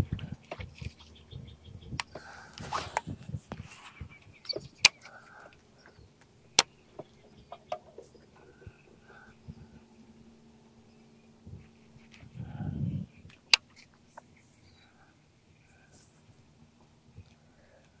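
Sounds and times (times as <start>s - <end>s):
faint bird calls: 0.8s - 2.9s, 3.6s - 16.5s.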